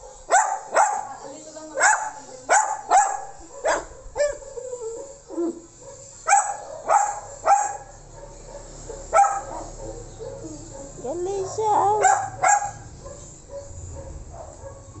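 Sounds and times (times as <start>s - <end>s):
dog barking: 0.0s - 15.0s.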